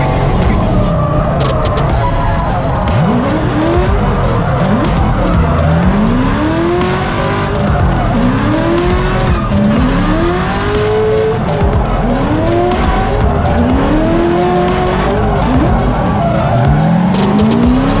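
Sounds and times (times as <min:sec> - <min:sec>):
background music: 0:00.0 - 0:18.0
car engine revving: 0:00.0 - 0:18.0.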